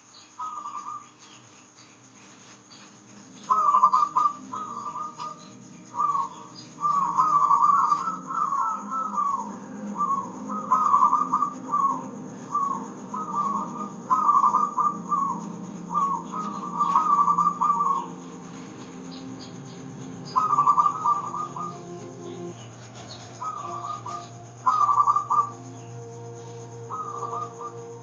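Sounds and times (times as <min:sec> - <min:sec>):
low steady hum: 0:00.0 - 0:28.0
dove cooing: 0:00.4 - 0:01.5, 0:02.4 - 0:28.0.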